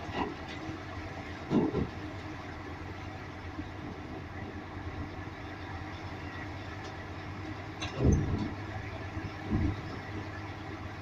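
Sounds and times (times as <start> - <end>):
car engine hum from inside: 0.0 - 11.0.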